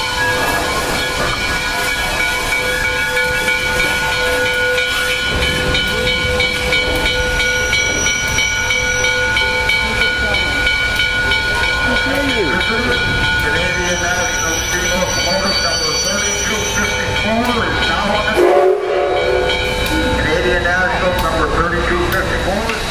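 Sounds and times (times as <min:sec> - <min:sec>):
steady tones: 0:00.0 - 0:22.6.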